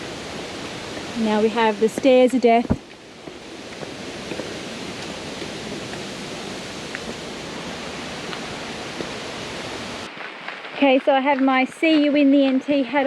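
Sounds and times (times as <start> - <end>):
creek water cascading over rocks: 0.0 - 13.0.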